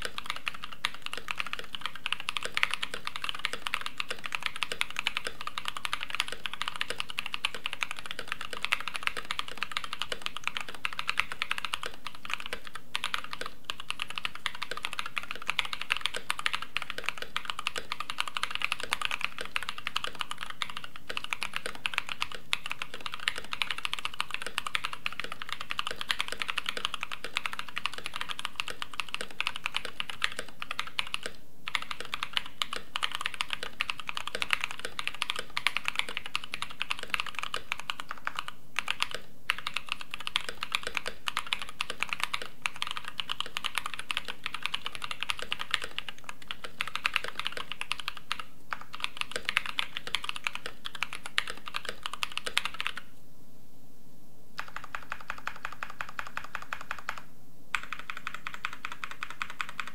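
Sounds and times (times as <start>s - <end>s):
mechanical keyboard typing: 0.0s - 53.1s, 54.6s - 59.9s.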